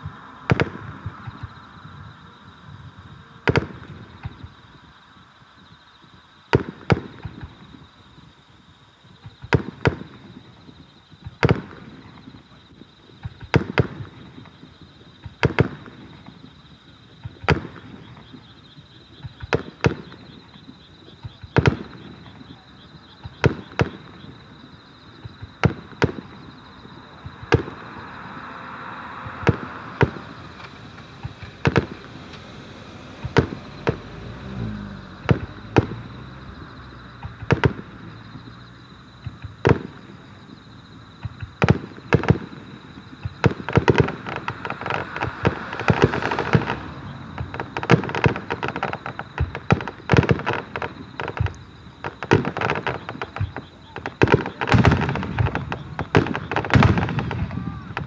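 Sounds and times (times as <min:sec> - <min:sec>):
fireworks bursting with sharp bangs: 0:00.0 - 0:04.8, 0:06.5 - 0:08.4, 0:09.0 - 0:58.0.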